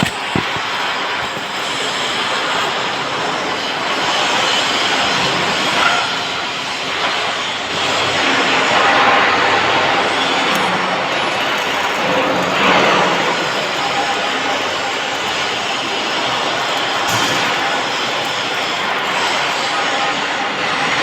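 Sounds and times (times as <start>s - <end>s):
welding arc crackling hiss: 0.0s - 21.0s.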